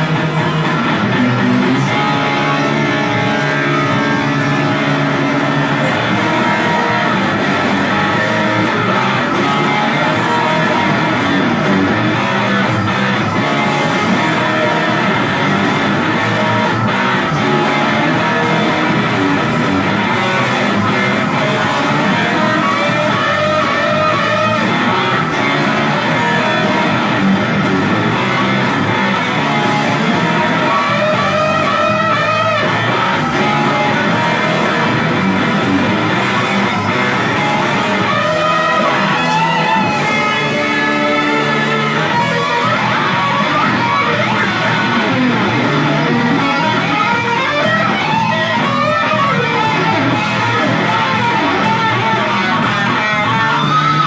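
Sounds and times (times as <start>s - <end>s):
instrumental rock music: 0.0s - 54.0s.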